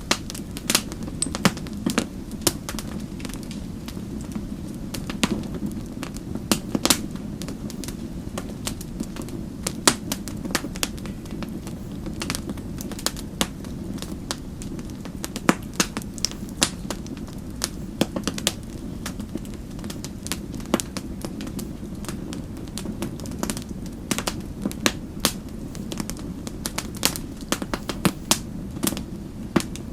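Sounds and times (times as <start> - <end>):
low rumble of flames: 0.0 - 29.9
wood fire crackling: 0.0 - 29.9.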